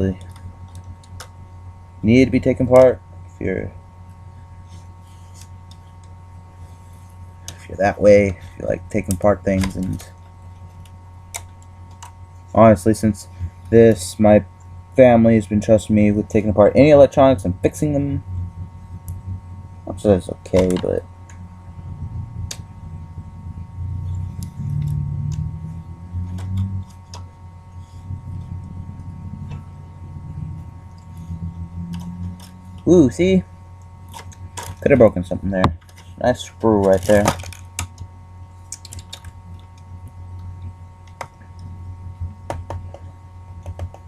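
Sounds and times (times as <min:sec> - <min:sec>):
low rumble of handling: 0:00.0 - 0:44.0
low steady hum: 0:00.0 - 0:44.0.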